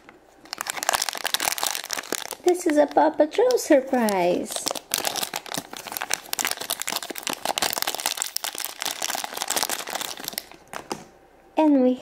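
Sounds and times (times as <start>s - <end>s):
plastic packet crinkling: 0.0s - 11.1s.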